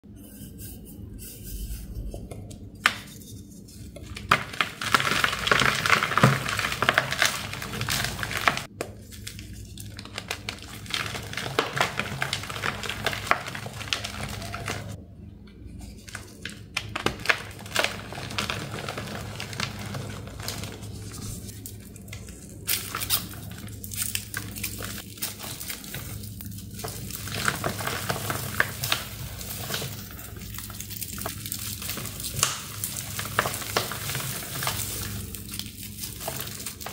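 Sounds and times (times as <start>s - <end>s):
chalk blocks crumbling and crunching: 2.8s - 15.0s, 15.8s - 36.9s.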